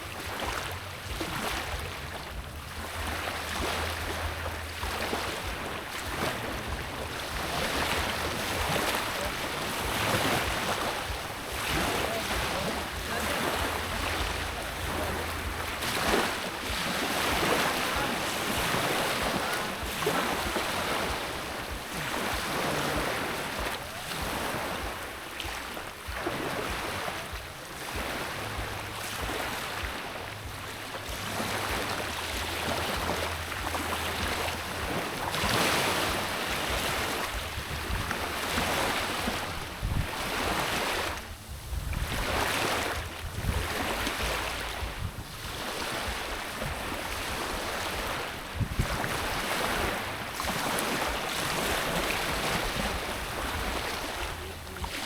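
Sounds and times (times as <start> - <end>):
sea waves washing: 0.0 - 55.0
wind buffeting microphone: 0.0 - 55.0.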